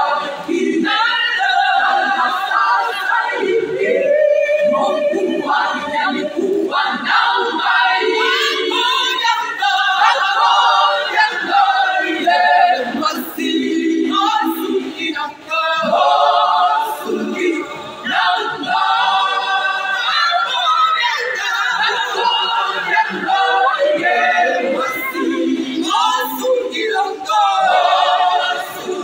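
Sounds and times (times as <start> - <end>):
women's choir singing a cappella: 0.0 - 29.0.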